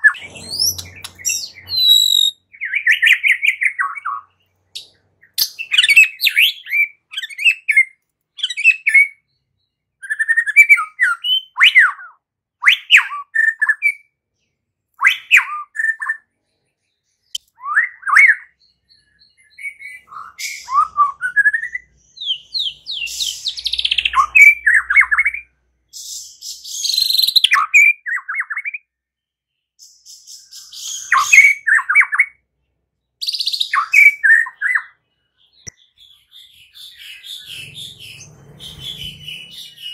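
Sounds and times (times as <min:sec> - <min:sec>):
bird singing whistled phrases: 0:00.0 - 0:09.3, 0:10.0 - 0:14.1, 0:15.0 - 0:16.2, 0:17.3 - 0:28.9, 0:29.8 - 0:32.4, 0:33.2 - 0:39.9.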